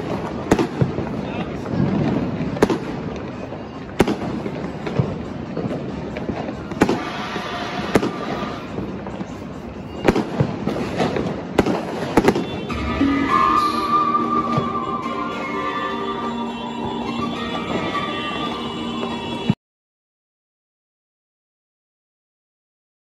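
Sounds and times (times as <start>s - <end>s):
firecrackers crackling: 0.0s - 19.6s
fireworks bangs: 0.0s - 19.6s.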